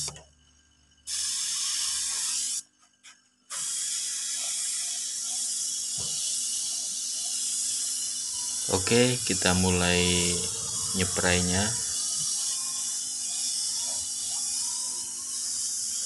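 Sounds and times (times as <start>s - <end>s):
spray gun hissing: 1.1s - 2.6s, 3.5s - 16.0s.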